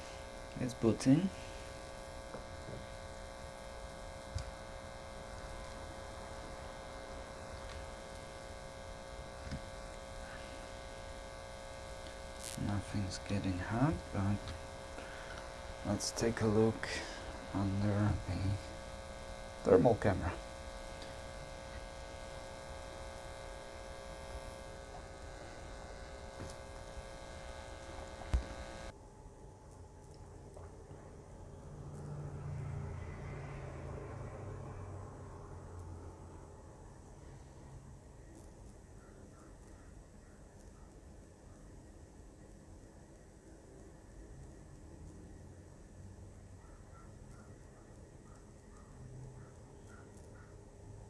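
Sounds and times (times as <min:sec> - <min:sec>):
electrical hum and buzz: 0:00.0 - 0:51.0.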